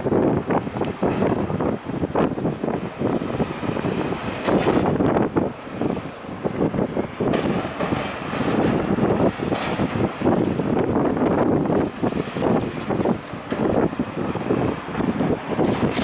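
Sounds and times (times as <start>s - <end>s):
continuous rumble: 0.0s - 16.0s.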